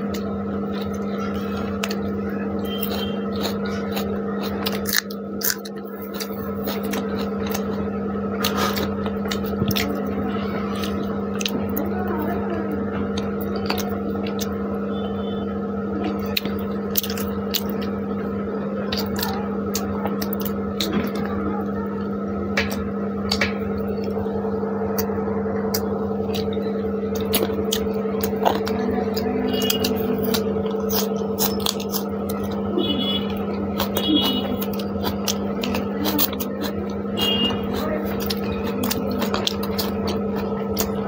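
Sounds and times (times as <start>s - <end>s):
chewing and lip-smacking: 0.0s - 14.8s, 16.0s - 24.3s, 24.9s - 41.0s
steady hum: 0.0s - 41.0s.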